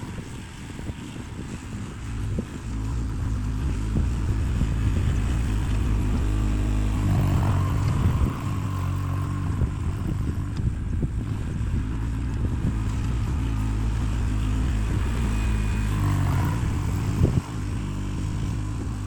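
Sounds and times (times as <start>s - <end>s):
earth-moving machine engine running: 0.0s - 19.0s
rising engine whine: 0.0s - 19.0s.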